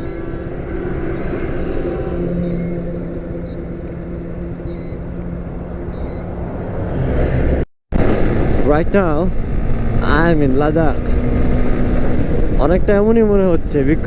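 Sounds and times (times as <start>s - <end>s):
road noise rumbling: 0.0s - 14.0s
vehicle engine humming: 0.0s - 14.0s.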